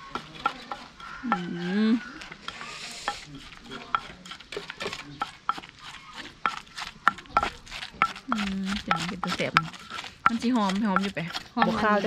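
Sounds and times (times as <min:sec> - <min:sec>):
pestle pounding in clay mortar: 0:00.0 - 0:12.0.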